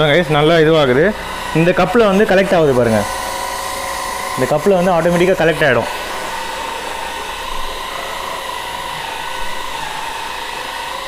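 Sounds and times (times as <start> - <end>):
stick vacuum cleaner whining: 0.0 - 11.0.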